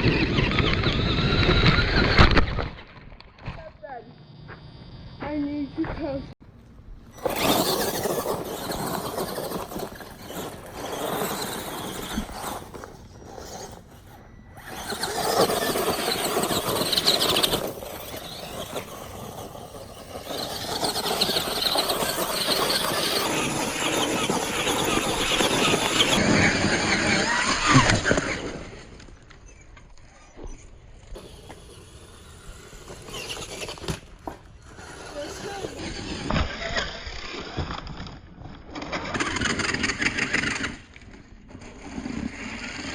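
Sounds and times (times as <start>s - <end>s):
toy truck motor whining: 0.0s - 2.9s, 7.1s - 42.9s
tyre noise: 7.0s - 42.9s.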